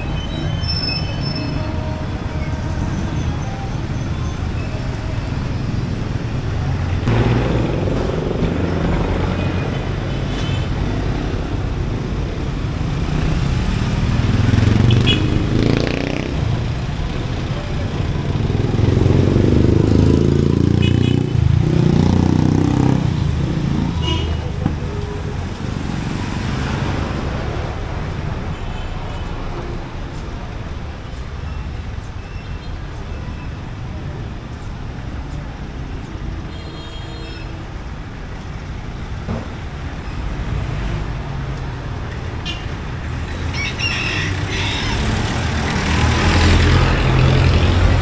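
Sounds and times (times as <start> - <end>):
road noise rumble: 0.0 - 48.0
vehicles passing close by: 0.0 - 48.0.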